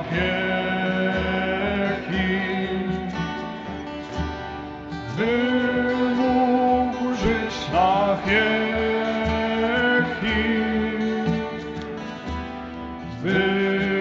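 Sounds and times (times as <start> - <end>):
person singing worship song: 0.0 - 4.0, 5.0 - 14.0
acoustic guitar: 0.0 - 14.0.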